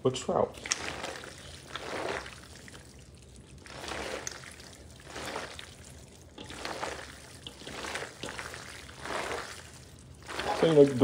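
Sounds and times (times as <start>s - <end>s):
wet mixing of salad in bowl: 0.2s - 11.0s.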